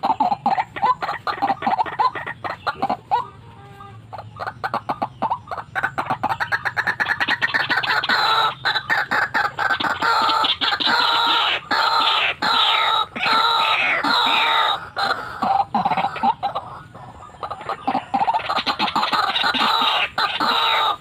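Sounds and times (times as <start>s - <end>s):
bird clucking notes: 0.0s - 21.0s
bird croaking calls: 0.0s - 21.0s.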